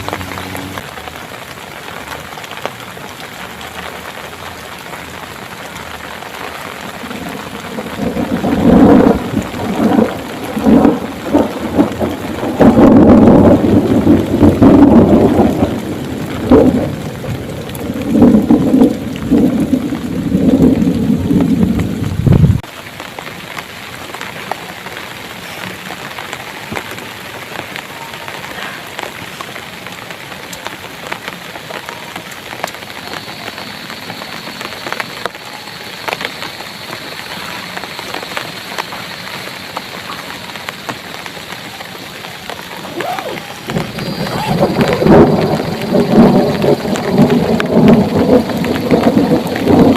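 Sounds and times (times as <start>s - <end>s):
heavy rain: 0.0s - 49.9s
raindrops ticking close by: 0.0s - 49.9s
thunder rumbling: 0.0s - 49.9s.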